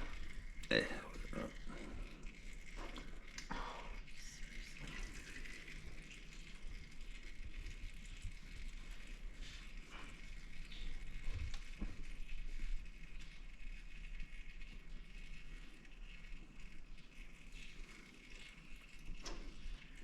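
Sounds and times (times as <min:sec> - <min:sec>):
oil trickling into a drain pan: 0:00.0 - 0:20.0.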